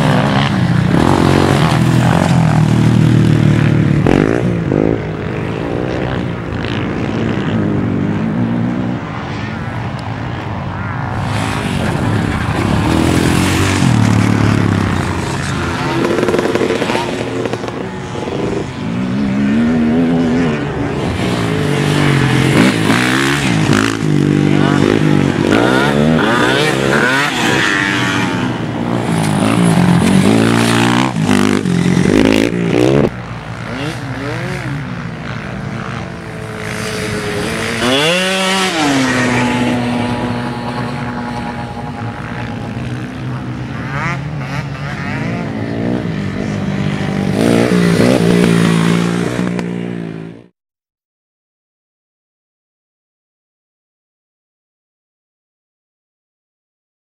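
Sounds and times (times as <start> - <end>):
quad bike engines revving: 0.0 - 10.1, 11.1 - 50.5.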